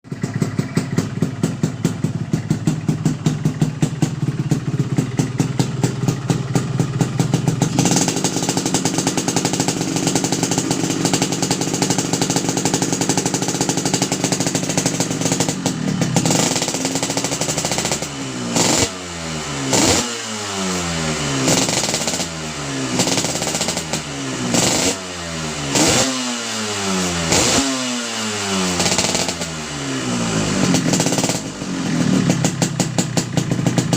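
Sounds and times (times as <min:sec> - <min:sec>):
two-stroke engine idling and revving: 0:00.0 - 0:33.9.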